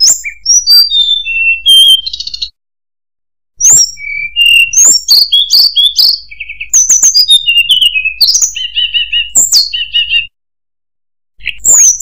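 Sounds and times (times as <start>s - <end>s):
bird singing whistled song: 0.0s - 2.6s, 3.6s - 10.4s, 11.4s - 12.0s.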